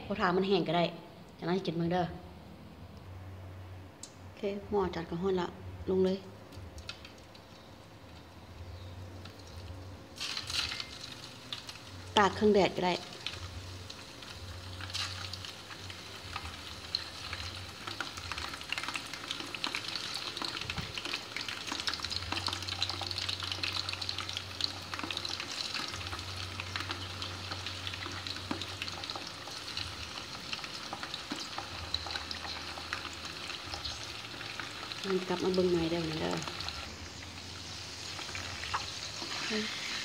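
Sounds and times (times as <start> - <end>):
meat deep-frying in hot oil: 6.6 - 40.0.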